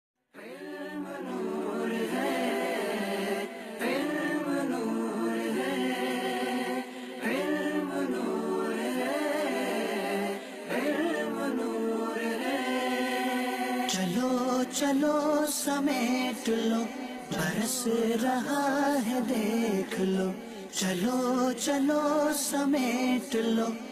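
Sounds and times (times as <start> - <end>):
layered voices singing: 0.4 - 23.9.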